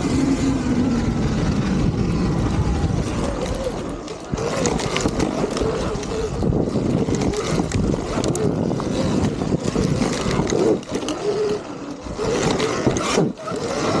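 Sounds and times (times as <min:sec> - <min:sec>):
electric motor whine: 0:00.0 - 0:14.0
tyre noise: 0:00.0 - 0:14.0
wind noise: 0:00.0 - 0:14.0.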